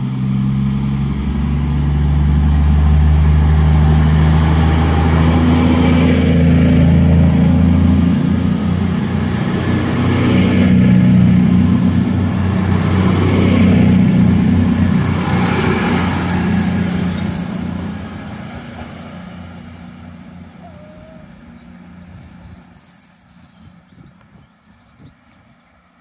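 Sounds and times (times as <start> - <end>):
diesel train engines droning: 0.0 - 24.0.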